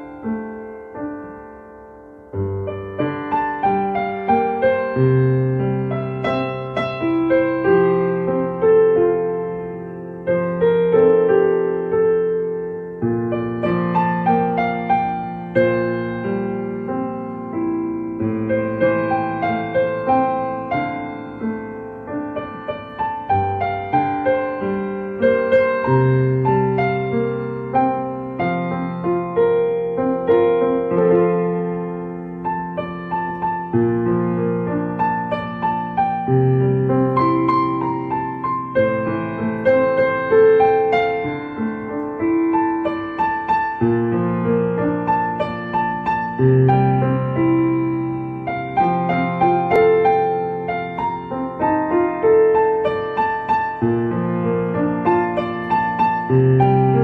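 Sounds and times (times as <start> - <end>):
slow gentle piano music: 0.0 - 57.0.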